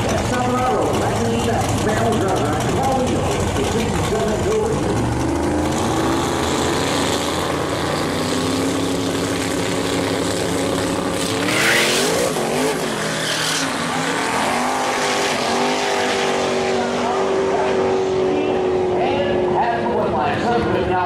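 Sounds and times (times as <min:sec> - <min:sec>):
drag car engine revving: 0:00.0 - 0:21.0.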